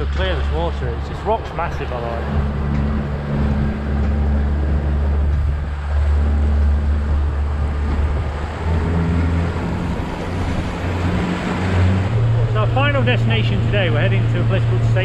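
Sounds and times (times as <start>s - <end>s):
boat engine hum: 0.0s - 15.0s
water rushing along hull: 0.0s - 15.0s.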